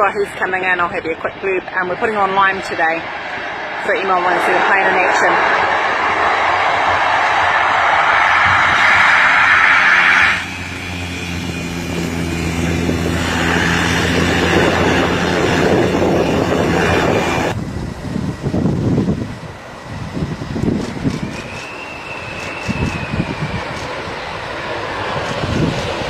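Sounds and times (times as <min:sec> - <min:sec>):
gusty wind noise: 0:00.0 - 0:26.0
propeller plane engine: 0:00.0 - 0:26.0.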